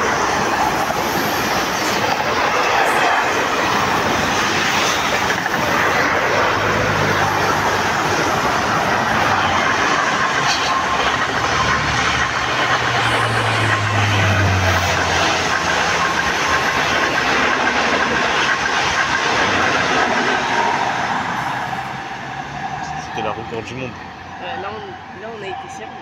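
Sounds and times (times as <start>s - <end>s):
train wheels rolling over rails: 0.0s - 25.4s.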